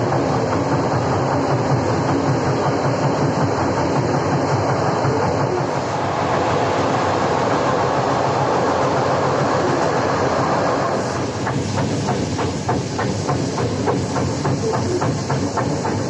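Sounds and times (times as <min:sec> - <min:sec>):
train rolling on rails: 0:00.0 - 0:16.0.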